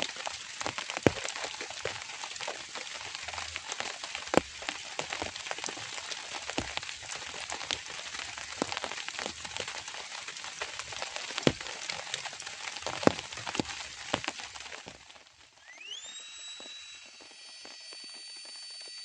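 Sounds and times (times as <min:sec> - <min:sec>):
heavier raindrops landing: 0:00.0 - 0:15.6
drizzling rain patter: 0:00.0 - 0:15.7.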